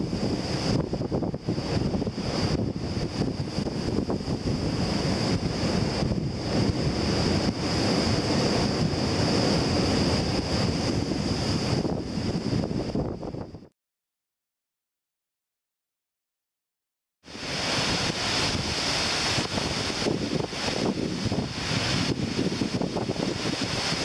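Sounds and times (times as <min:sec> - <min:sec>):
gusty wind buffeting microphone: 0:00.0 - 0:13.7, 0:17.3 - 0:24.0.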